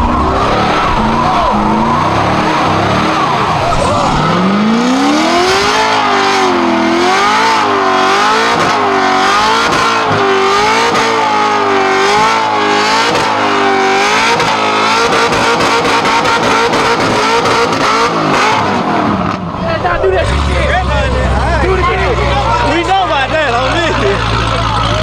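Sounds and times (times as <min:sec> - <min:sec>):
car engine revving high: 0:00.0 - 0:25.0.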